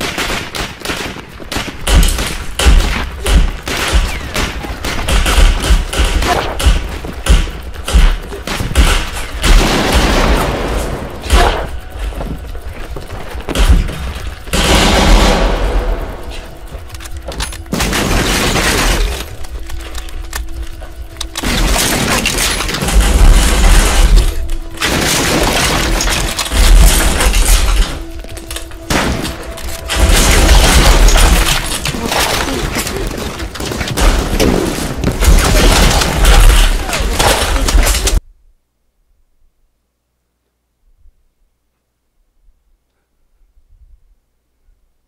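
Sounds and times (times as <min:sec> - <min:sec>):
gunshots and impacts: 0:00.0 - 0:12.4, 0:13.5 - 0:20.4, 0:21.2 - 0:38.2
film music: 0:00.0 - 0:38.2.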